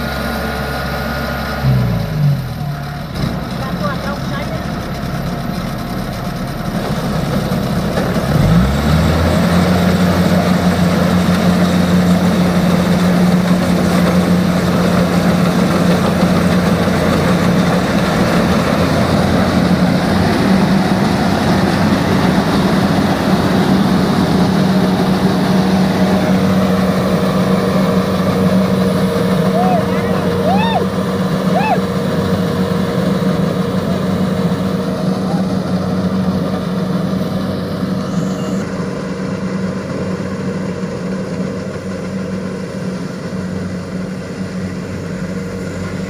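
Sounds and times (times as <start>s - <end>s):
diesel engine running under load: 0.0s - 46.0s.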